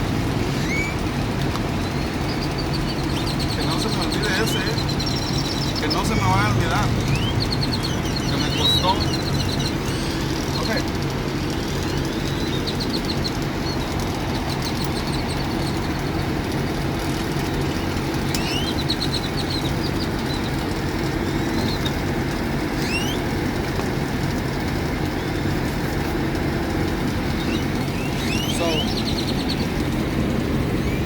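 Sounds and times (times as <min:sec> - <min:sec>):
large engine idling: 0:00.0 - 0:31.0
small birds chirping: 0:00.1 - 0:31.0.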